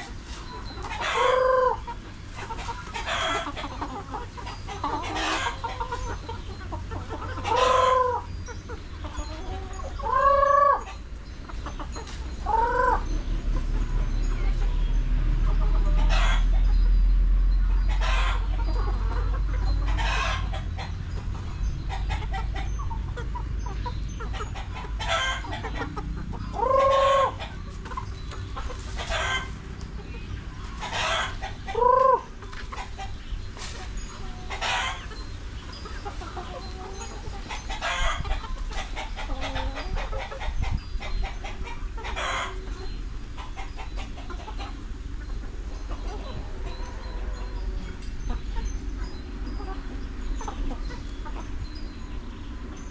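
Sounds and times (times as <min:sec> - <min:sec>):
chickens clucking and calling: 0:00.0 - 0:52.9.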